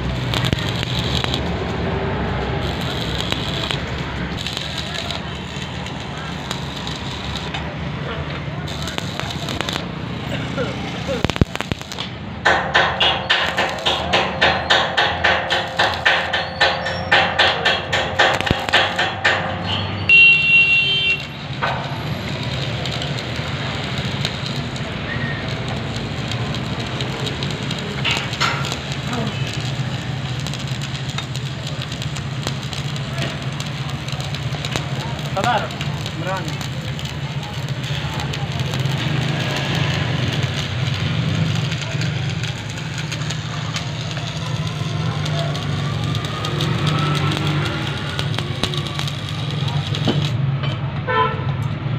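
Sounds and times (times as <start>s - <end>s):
arc welding crackling hiss: 0.0s - 7.6s, 8.6s - 19.3s, 20.1s - 50.4s.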